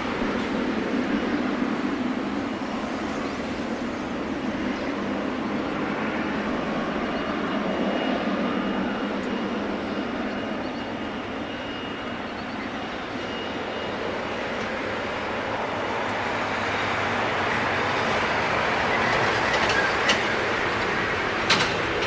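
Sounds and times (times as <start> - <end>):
faint high engine whine: 0.0 - 22.0
jet engines droning: 0.0 - 22.0.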